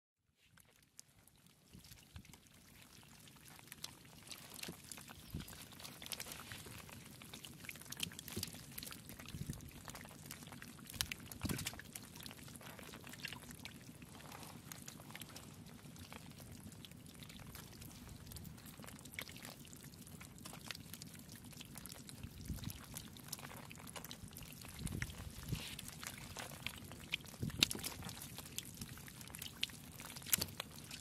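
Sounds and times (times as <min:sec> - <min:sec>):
water trickling and splashing: 0:00.5 - 0:31.0
water dripping: 0:00.6 - 0:31.0.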